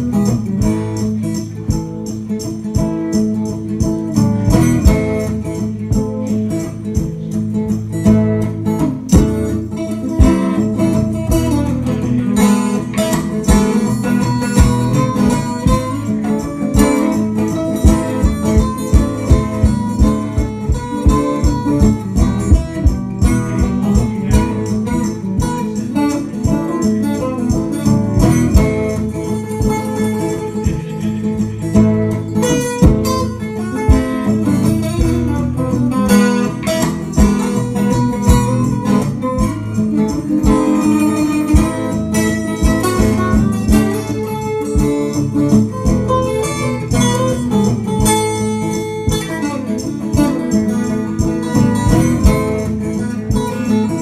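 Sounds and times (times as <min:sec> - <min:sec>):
band playing guitar music: 0:00.0 - 0:54.0.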